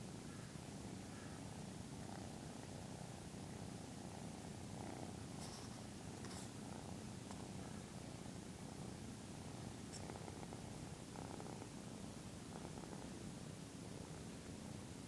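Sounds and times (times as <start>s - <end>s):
kitten purring: 0.8s - 14.8s.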